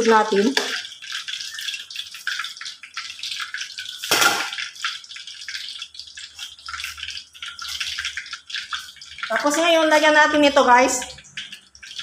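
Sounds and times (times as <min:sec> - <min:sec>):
soup boiling and bubbling: 0:00.0 - 0:12.0.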